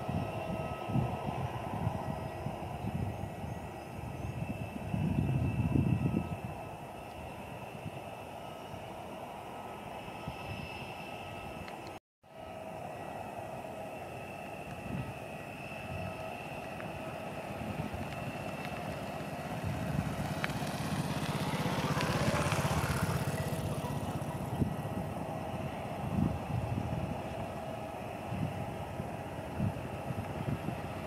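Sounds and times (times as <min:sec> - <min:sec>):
jet engines at takeoff thrust: 0:00.0 - 0:31.0.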